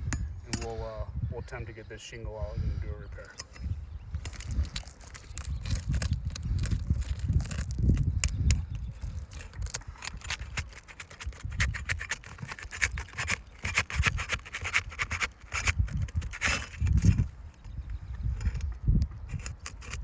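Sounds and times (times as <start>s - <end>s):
tool scraping shingles: 3.2s - 20.0s.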